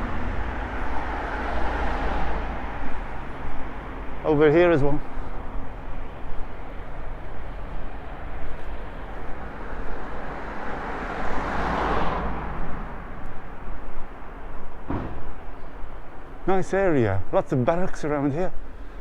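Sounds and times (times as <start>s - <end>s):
car passing: 0.0s - 16.4s
road traffic noise: 0.0s - 19.0s.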